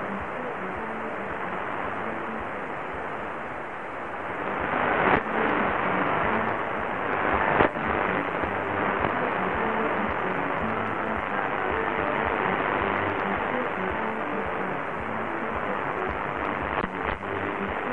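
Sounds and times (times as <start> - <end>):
faint radio programme audio: 0.0 - 17.9
radio hiss and static: 0.0 - 17.9.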